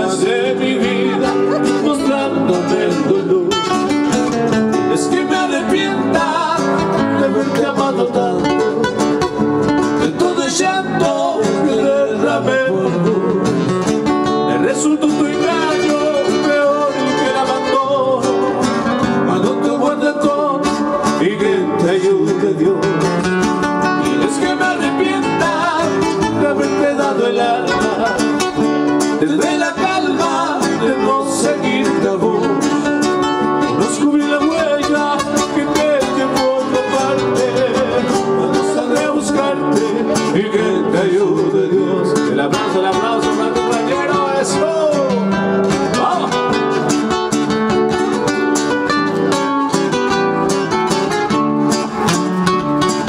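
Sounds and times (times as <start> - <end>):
person singing: 0.0 - 4.1, 4.7 - 9.2, 10.0 - 47.0
acoustic guitars playing: 0.0 - 53.0.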